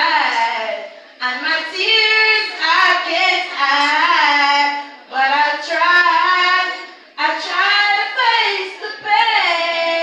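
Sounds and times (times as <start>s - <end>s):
woman singing into microphone: 0.0s - 10.0s.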